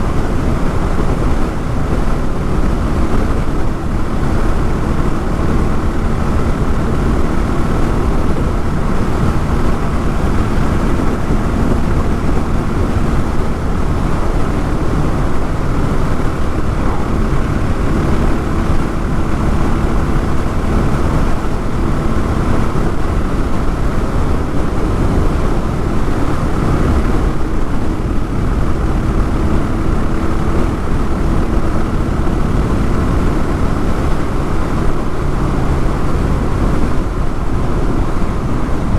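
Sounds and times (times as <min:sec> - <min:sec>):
motorcycle engine running: 0:00.0 - 0:38.9
road noise: 0:00.0 - 0:38.9
wind rushing over microphone: 0:00.0 - 0:38.9.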